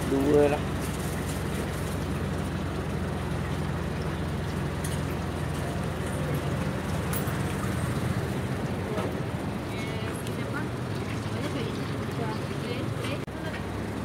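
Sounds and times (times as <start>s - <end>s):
low engine hum: 0.0s - 14.0s
street background noise: 0.0s - 14.0s.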